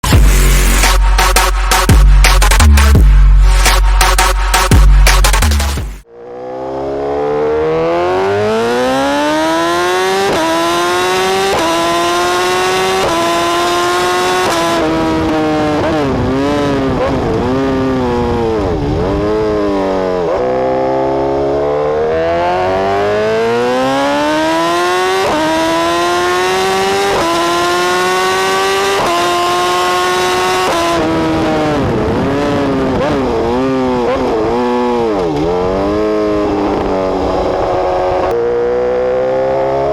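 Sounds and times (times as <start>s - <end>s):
motorcycle engine revving through gears: 5.6s - 39.9s.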